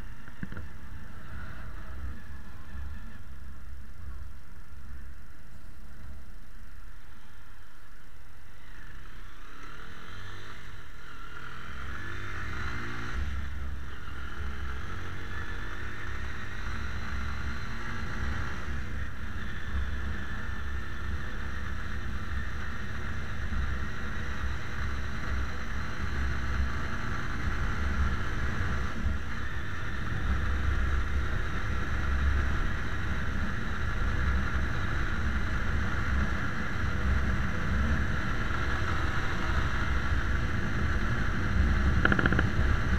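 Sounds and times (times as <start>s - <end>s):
wind and road rush: 0.0s - 42.9s
motorcycle engine accelerating: 8.5s - 42.9s.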